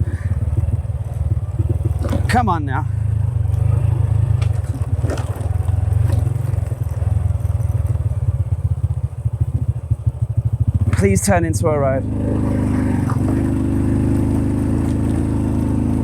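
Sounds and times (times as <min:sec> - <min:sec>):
bike knocks and rattles: 0:00.0 - 0:11.4, 0:12.6 - 0:16.0
motorbike engine running at low revs: 0:00.0 - 0:16.0.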